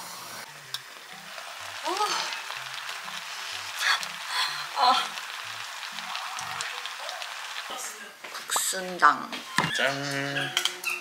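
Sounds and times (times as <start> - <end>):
food sizzling on a stove: 0.0 - 11.0.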